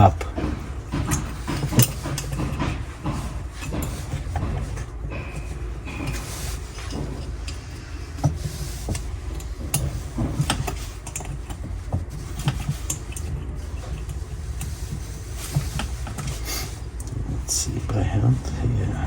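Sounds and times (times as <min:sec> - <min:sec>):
steady low rumble: 0:00.0 - 0:19.0
tools and metal parts clicking: 0:00.2 - 0:07.6, 0:08.2 - 0:16.4.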